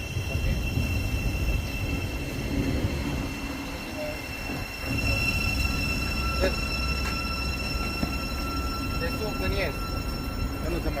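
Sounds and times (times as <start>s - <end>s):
high-pitched whine: 0.0s - 11.0s
lower whine: 0.0s - 11.0s
train rumble: 0.0s - 11.0s.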